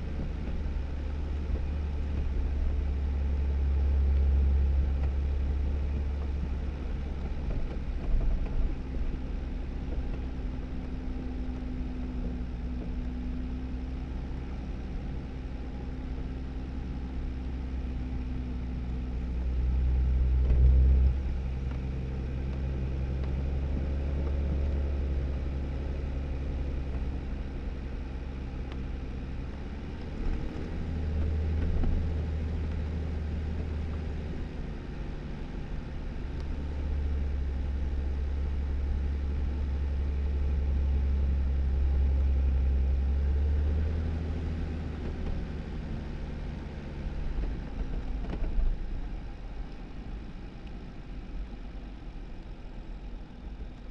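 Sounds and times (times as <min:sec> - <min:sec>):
car engine droning: 0:00.0 - 0:53.9
tyre and road noise: 0:00.0 - 0:53.9.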